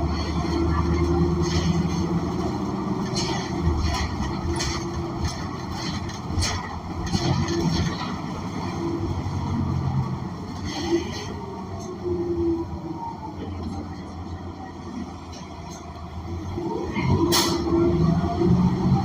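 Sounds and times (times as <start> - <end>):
bus engine from inside cabin: 0.0 - 19.0.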